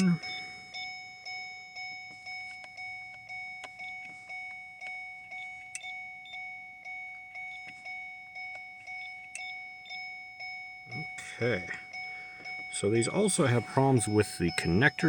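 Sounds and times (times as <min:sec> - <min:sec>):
two-tone vehicle warning chime: 0:00.0 - 0:15.0.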